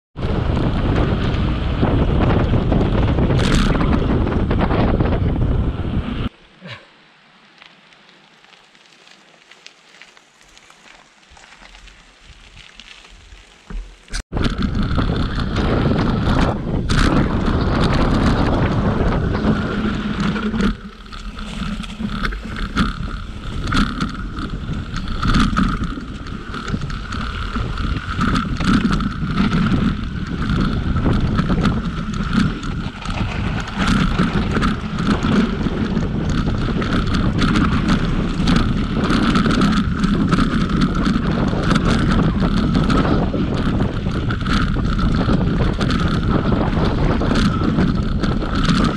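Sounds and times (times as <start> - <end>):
wind buffeting microphone: 0.2 - 6.3, 14.1 - 48.9
bike rattling over bumps: 0.2 - 6.8, 7.7 - 48.9
tyre rumble on dirt trail: 0.2 - 6.8, 7.4 - 48.9.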